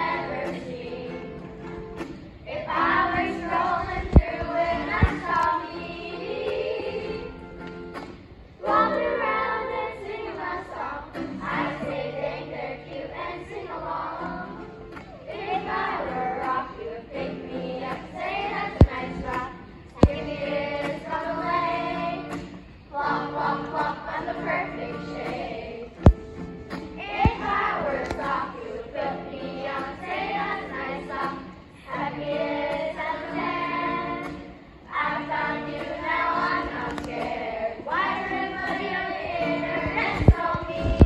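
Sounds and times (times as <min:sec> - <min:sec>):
children singing together: 0:00.0 - 0:01.7, 0:02.5 - 0:07.6, 0:08.6 - 0:26.2, 0:26.8 - 0:41.0
strummed acoustic guitar: 0:00.0 - 0:41.0.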